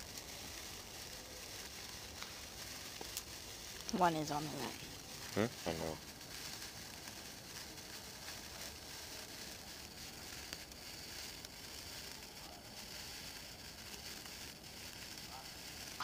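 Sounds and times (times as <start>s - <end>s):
faint crackles: 0.0s - 16.0s
sparkler fizzing hiss: 0.0s - 16.0s.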